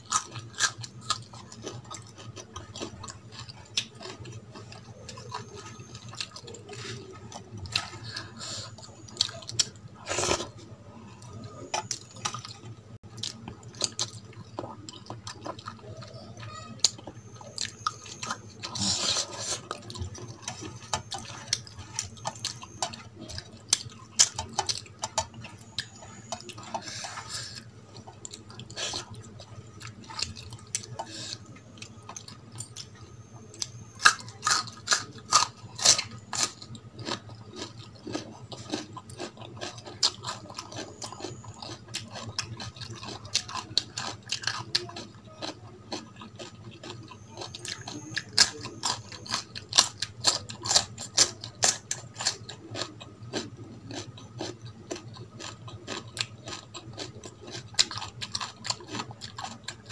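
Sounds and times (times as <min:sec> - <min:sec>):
wet chewing and lip-smacking: 0:11.2 - 0:59.9.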